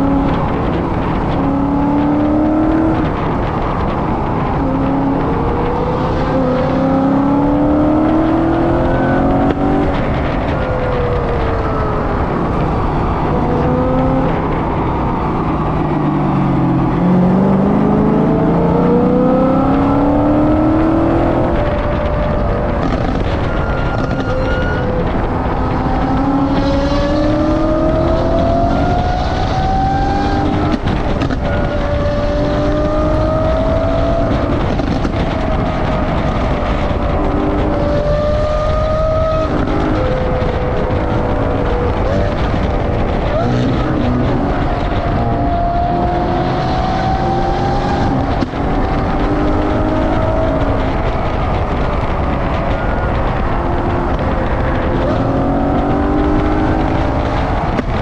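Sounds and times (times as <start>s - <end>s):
car engine revving through gears: 0.0s - 58.0s
road noise: 0.0s - 58.0s
wind noise: 0.0s - 58.0s.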